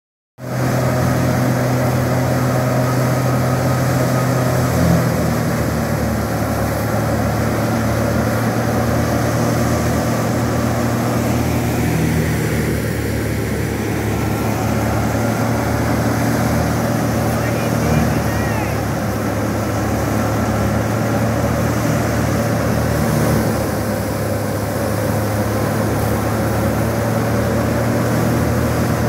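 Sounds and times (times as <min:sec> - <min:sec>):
thresher mechanical drone: 0:00.5 - 0:29.0.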